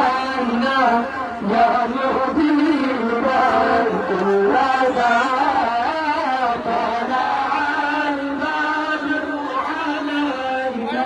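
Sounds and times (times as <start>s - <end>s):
voices chanting a devotional song: 0.0s - 11.0s.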